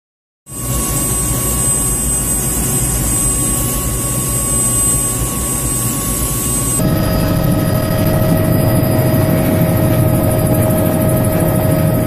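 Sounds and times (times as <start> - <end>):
helicopter rotor beat: 0.5 - 12.0
turbine high whine: 0.5 - 12.0.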